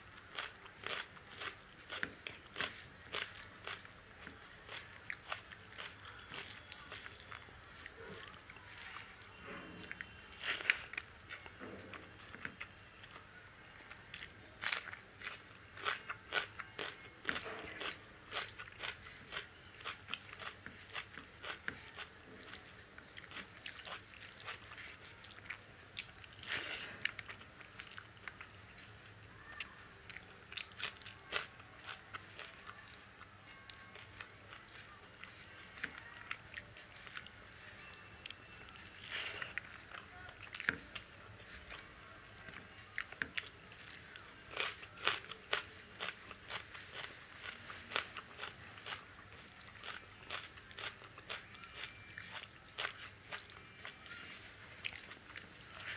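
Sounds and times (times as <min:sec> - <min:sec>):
wet chewing and crunching: 0:00.2 - 0:13.3, 0:13.9 - 0:28.8, 0:29.4 - 0:55.9.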